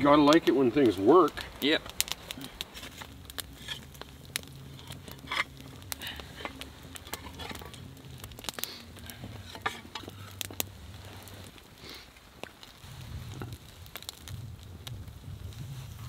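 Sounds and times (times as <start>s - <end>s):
campfire crackling and popping: 0.0s - 16.0s
shovel scraping burning wood: 0.0s - 16.0s.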